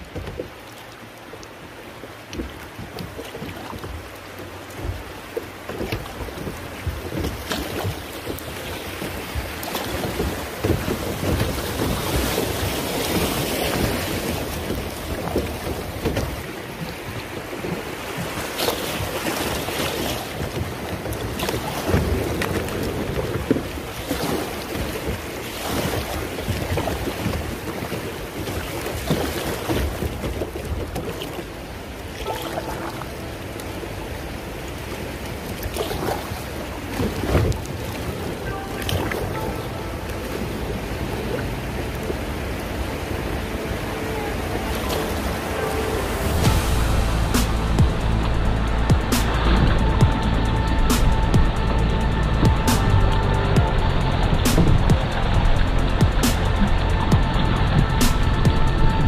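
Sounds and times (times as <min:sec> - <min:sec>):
river water rushing: 0:00.0 - 0:59.0
wind buffeting microphone: 0:02.4 - 0:59.0.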